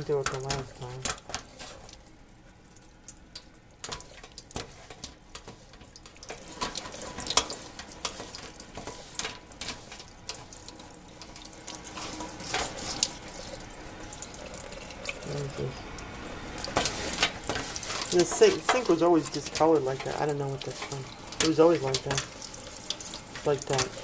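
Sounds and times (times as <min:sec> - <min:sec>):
tap water splashing in sink: 0:00.0 - 0:02.0, 0:03.1 - 0:24.0.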